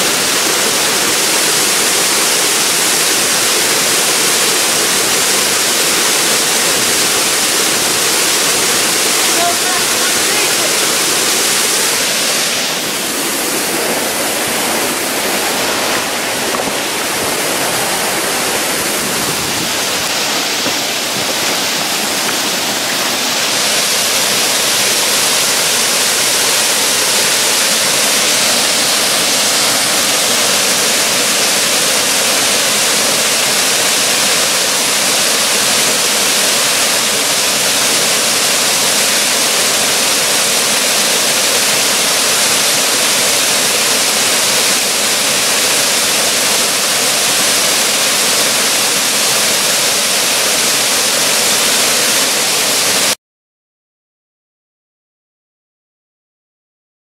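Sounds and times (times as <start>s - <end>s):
waterfall rushing: 0.0s - 53.2s.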